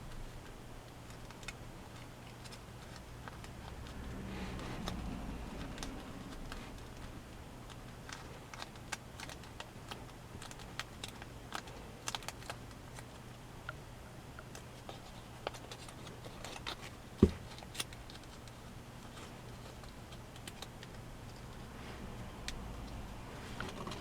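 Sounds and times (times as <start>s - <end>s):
paper crackling while creased: 0.0s - 13.4s, 14.4s - 22.4s.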